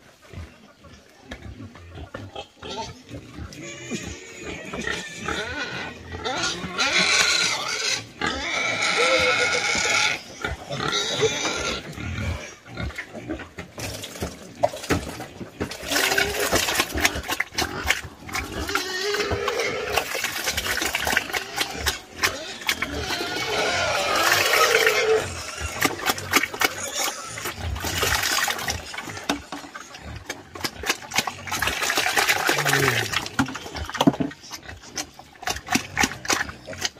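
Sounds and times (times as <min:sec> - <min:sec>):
drawn-out pig calls: 0:00.0 - 0:36.9
pig slurping slop: 0:03.5 - 0:36.9.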